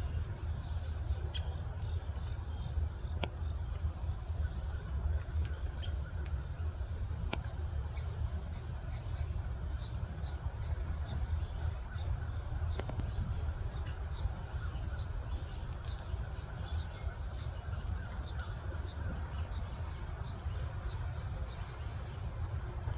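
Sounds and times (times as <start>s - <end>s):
high-pitched insect trill: 0.0s - 22.9s.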